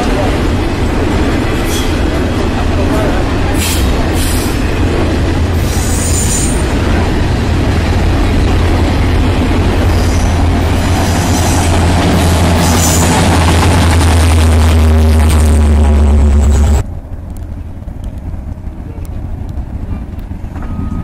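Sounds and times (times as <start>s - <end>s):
diesel locomotive drone: 0.0s - 21.0s
train wheels rumbling on rail: 0.0s - 21.0s.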